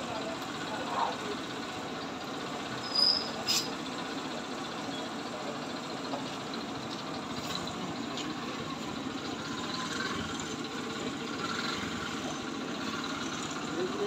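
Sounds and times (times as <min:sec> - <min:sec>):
street traffic with idling engines: 0:00.0 - 0:14.0.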